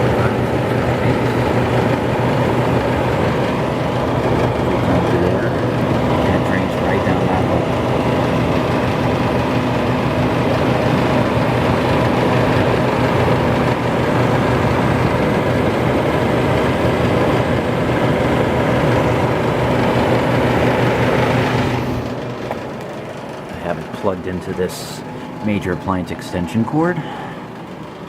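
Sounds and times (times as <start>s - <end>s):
compressor humming: 0.0s - 28.0s
fan rushing: 0.0s - 28.0s.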